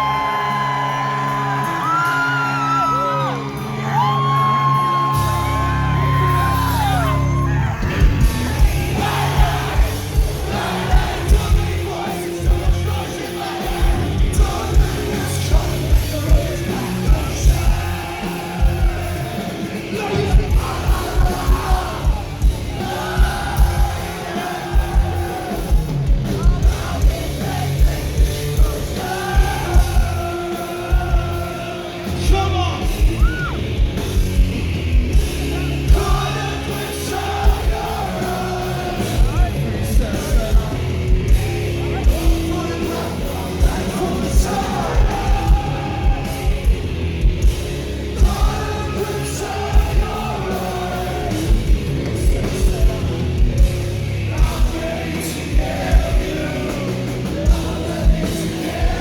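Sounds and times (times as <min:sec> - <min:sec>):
live rock band: 0:00.0 - 0:59.0
fast kick-drum beats: 0:07.8 - 0:59.0.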